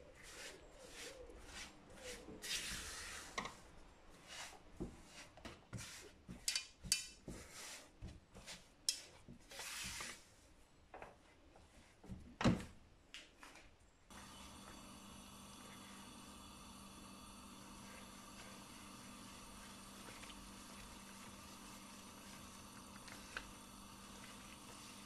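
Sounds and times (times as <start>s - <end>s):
spatula scraping crumbly mixture: 0.1s - 3.4s, 4.1s - 10.3s, 14.2s - 25.0s.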